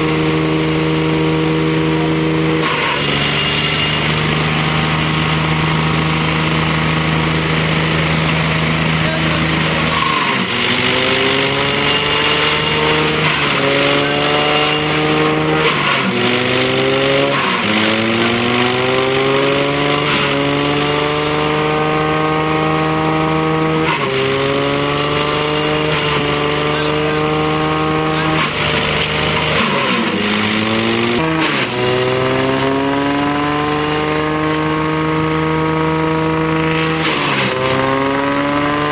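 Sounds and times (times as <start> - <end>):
shredder bogging and recovering: 0.0 - 38.9
tractor engine: 0.0 - 38.9.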